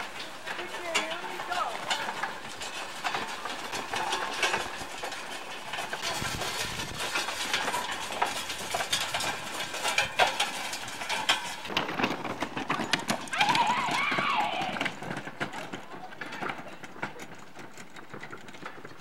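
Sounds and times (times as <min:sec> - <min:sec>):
wooden cart wheels rattling: 0:00.0 - 0:19.0.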